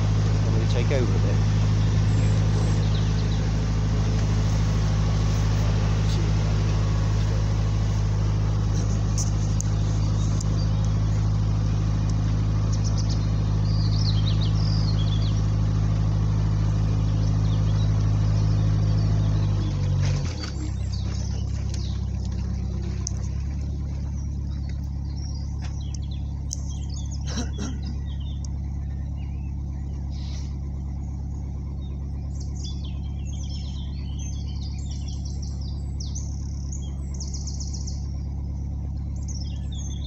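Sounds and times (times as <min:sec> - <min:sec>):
birds chirping faintly: 0:00.0 - 0:40.0
boat diesel engine running: 0:00.0 - 0:40.0.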